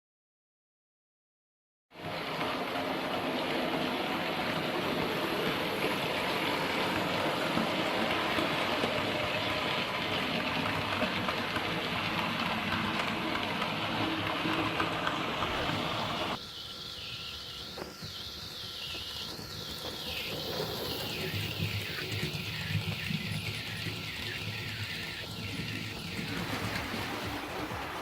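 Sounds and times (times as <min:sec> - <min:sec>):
model train running on track: 0:02.0 - 0:28.0.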